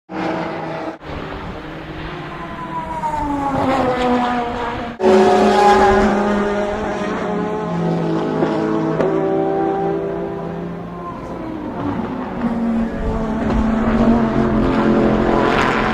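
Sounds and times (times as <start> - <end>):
loud race car engine: 0.1 - 15.9
race car engine slowing: 0.2 - 15.9.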